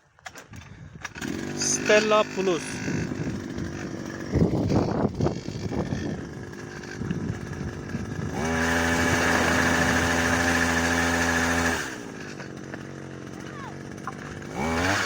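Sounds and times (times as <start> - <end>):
harvester engine revving: 1.1 - 15.0.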